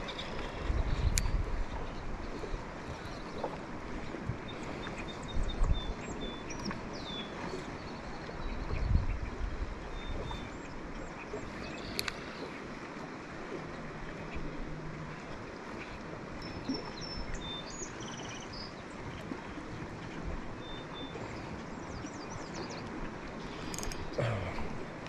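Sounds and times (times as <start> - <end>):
steady wind: 0.0 - 25.0
water lapping against metal boat: 0.0 - 25.0.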